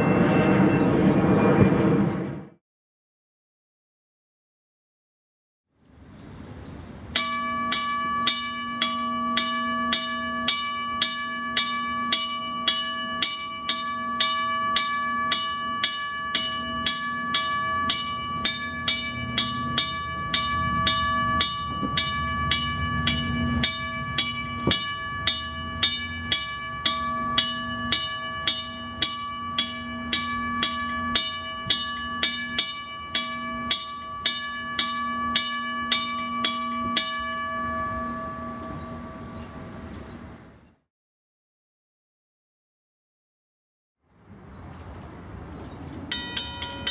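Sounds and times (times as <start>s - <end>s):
railroad crossing bell ringing: 0.0s - 2.0s, 7.1s - 40.4s, 44.7s - 46.9s.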